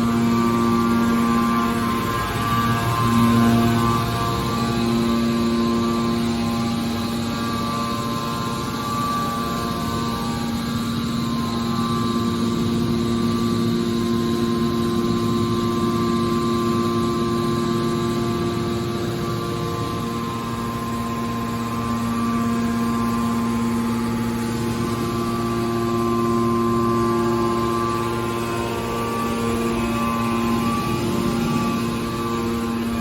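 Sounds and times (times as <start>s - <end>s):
baler power unit humming: 0.0s - 33.0s.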